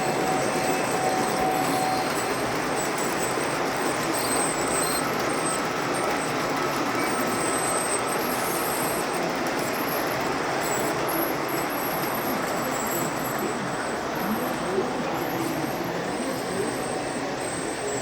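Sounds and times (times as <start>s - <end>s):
train rolling on rails: 0.0s - 18.0s.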